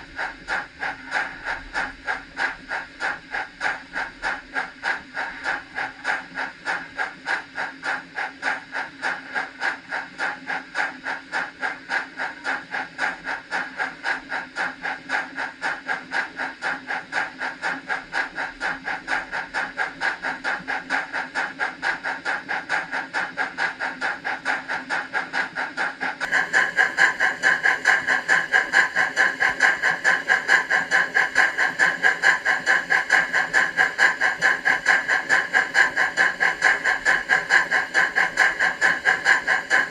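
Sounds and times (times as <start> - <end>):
model steam locomotive chuffing: 0.0 - 39.9.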